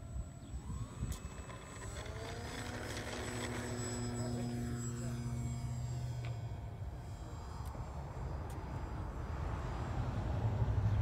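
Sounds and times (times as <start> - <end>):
model airplane motor and propeller: 0.0 - 11.0.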